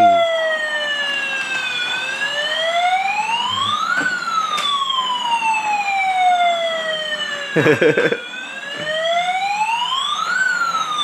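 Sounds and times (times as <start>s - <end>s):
toy fire truck siren wailing: 0.0s - 11.0s.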